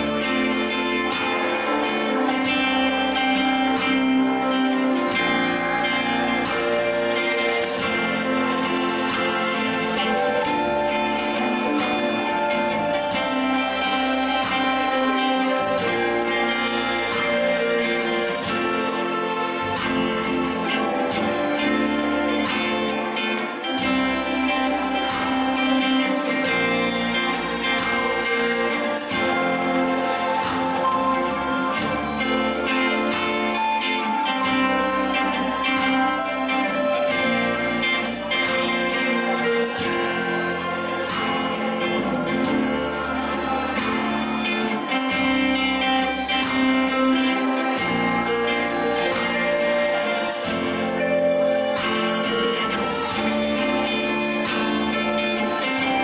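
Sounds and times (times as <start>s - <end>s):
steady beat: 0.0s - 56.0s
strummed guitar: 0.0s - 56.0s
sustained chords: 0.0s - 56.0s.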